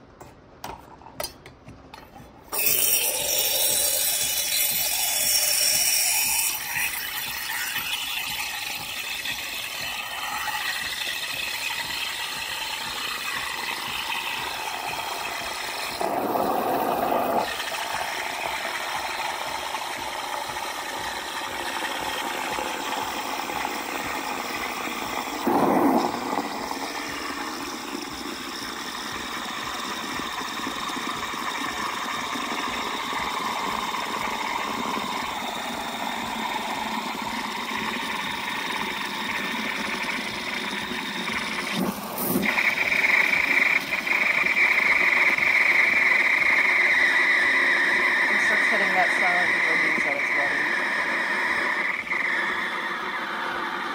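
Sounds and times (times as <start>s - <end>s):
steam wand frothing milk: 2.2s - 53.9s.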